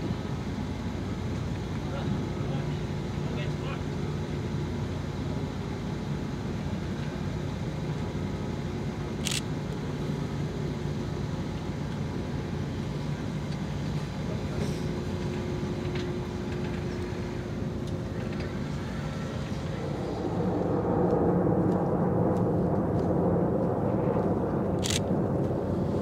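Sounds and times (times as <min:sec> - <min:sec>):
ship diesel engines droning: 0:00.0 - 0:20.8.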